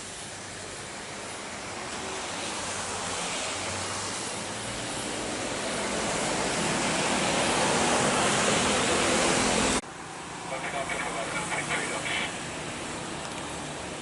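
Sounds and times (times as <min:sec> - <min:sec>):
jet airliner engines roaring: 0:00.0 - 0:14.0.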